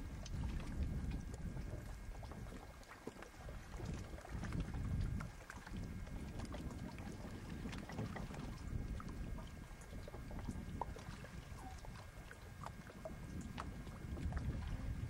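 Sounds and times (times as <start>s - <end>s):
small splashes and clicks: 0.0s - 15.0s
water lapping and dripping: 0.0s - 15.0s
wind rumble on microphone: 0.0s - 15.0s.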